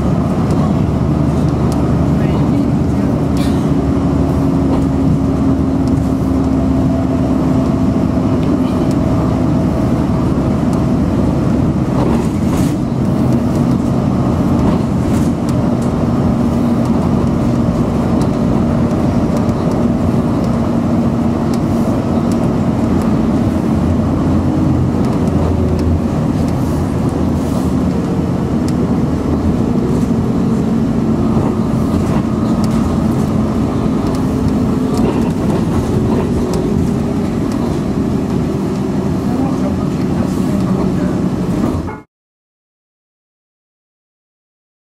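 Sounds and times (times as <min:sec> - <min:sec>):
low engine hum: 0:00.0 - 0:42.1
road noise drone inside bus: 0:00.0 - 0:42.1.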